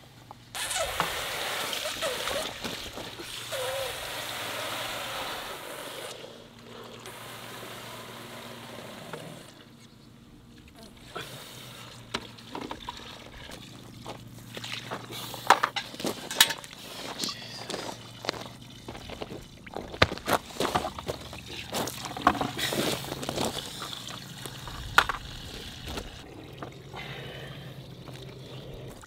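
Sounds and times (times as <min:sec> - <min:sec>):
liquid gushing into bucket: 0:00.6 - 0:09.5, 0:11.7 - 0:15.2, 0:17.7 - 0:29.0.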